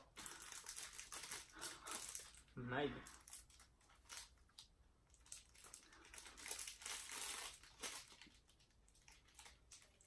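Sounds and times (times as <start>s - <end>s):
snack wrapper crinkling: 0.0s - 10.0s.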